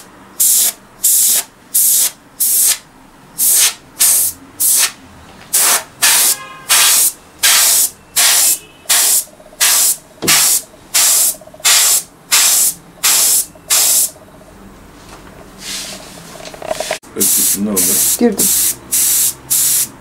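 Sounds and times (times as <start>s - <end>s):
airbrush hissing bursts: 0.4s - 2.8s, 3.4s - 14.2s, 17.2s - 20.0s.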